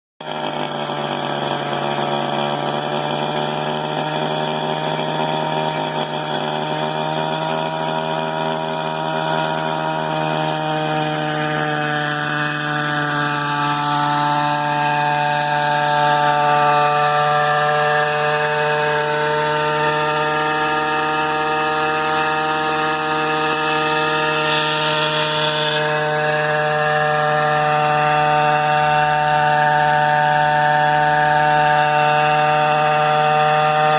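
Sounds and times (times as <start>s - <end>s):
quadcopter engine running: 0.2s - 33.9s.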